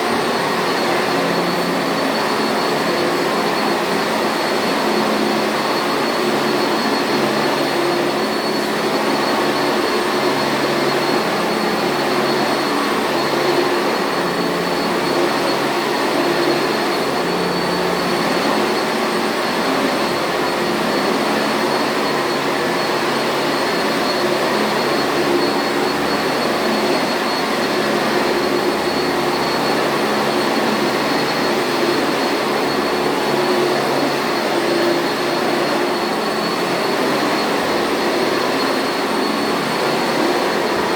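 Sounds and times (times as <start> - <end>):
vacuum cleaner whirring: 0.0 - 40.9.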